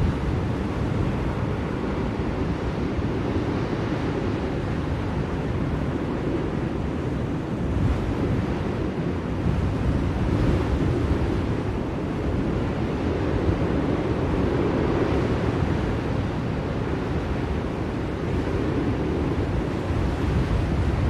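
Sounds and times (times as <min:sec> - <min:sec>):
blizzard wind rushing: 0:00.0 - 0:21.0.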